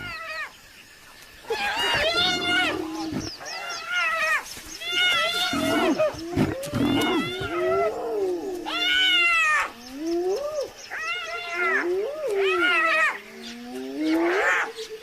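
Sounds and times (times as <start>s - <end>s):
hyenas squealing and whooping: 1.5s - 15.0s.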